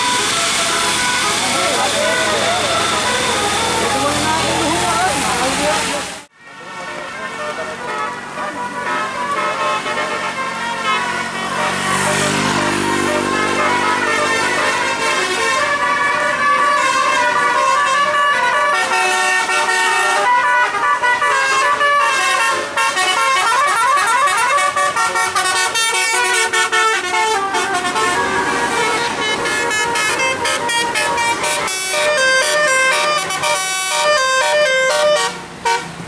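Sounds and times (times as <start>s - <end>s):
musical air horn playing tune: 0.0s - 36.0s.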